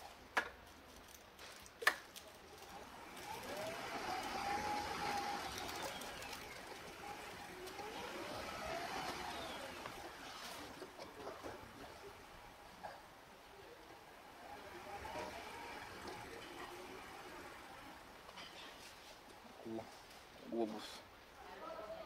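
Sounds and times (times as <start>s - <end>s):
wheelchair rolling with whine: 1.0s - 20.2s.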